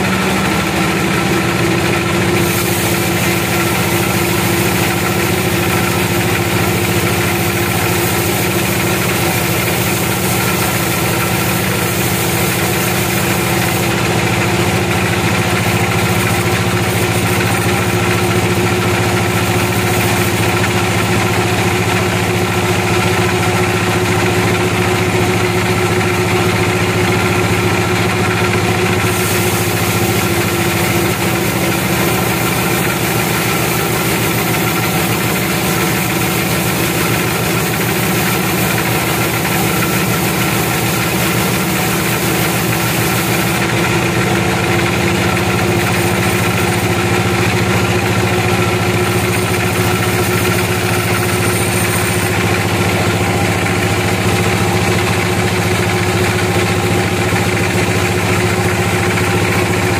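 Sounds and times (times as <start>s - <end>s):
band sawmill cutting log: 0.0s - 59.9s.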